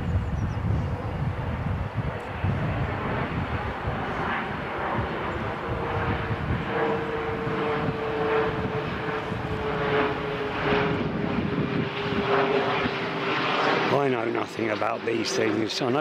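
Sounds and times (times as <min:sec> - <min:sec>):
aeroplane engines droning overhead: 0:00.0 - 0:16.0.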